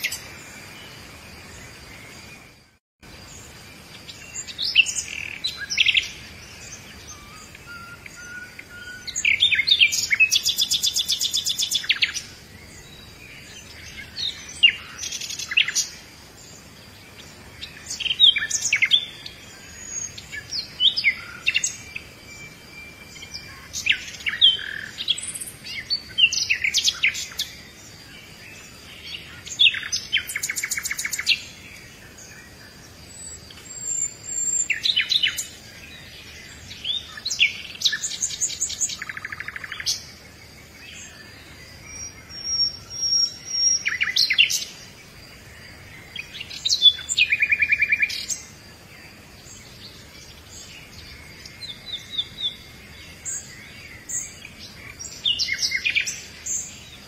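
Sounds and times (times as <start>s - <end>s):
birds singing: 0.0s - 57.0s.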